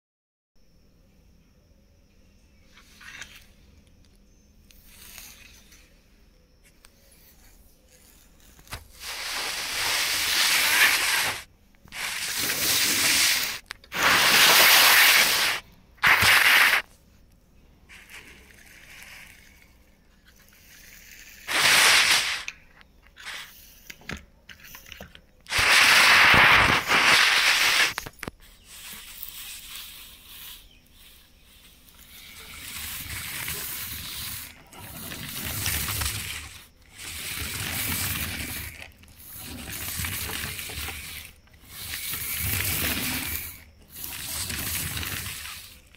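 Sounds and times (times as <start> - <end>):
toy wheels scraping plastic grass: 2.7 - 3.6, 4.7 - 6.0, 6.9 - 16.9, 17.9 - 45.9.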